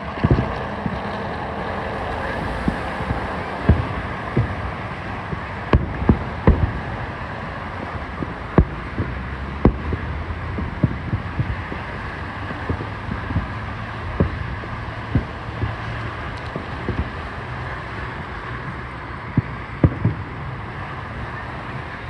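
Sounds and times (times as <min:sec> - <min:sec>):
fireworks booming: 0:00.0 - 0:22.0
steady background rush: 0:00.0 - 0:22.0.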